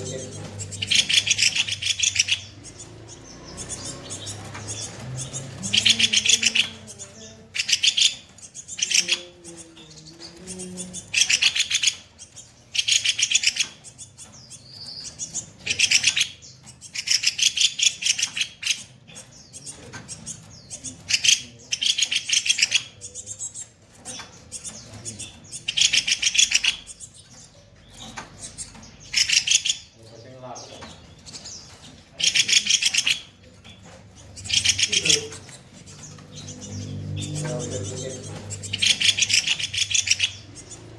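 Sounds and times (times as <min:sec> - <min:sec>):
bird rattling trills: 0:00.0 - 0:40.9.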